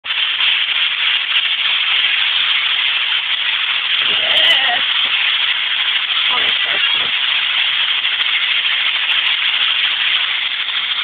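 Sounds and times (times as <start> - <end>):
high-pitched hiss: 0.0 - 11.0.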